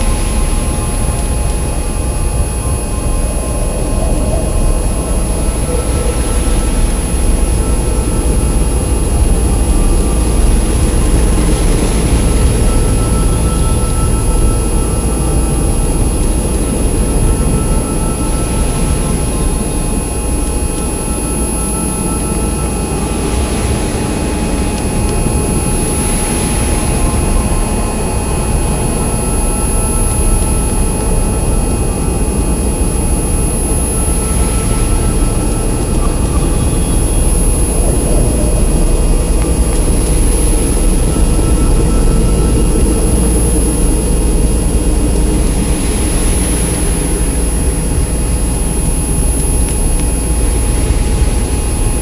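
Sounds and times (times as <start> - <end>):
low electronic rumble: 0.0 - 52.0.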